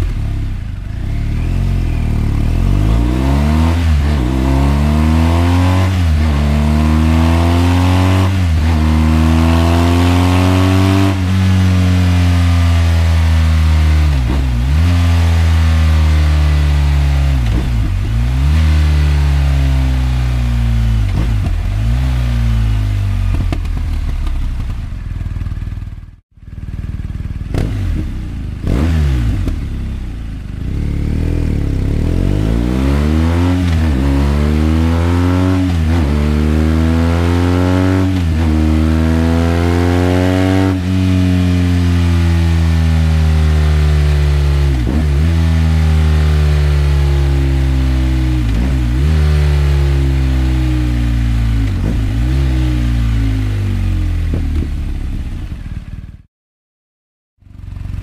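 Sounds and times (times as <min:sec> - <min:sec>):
motorcycle engine revving: 0:00.0 - 0:56.3, 0:57.4 - 0:58.0.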